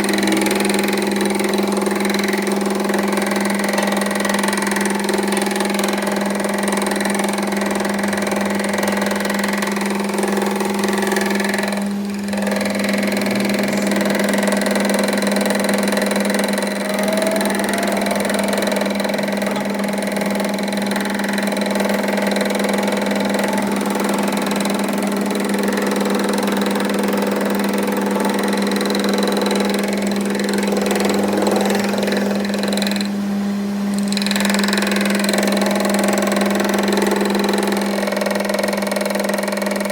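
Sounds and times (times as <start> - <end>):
machine motor humming: 0.0 - 39.9.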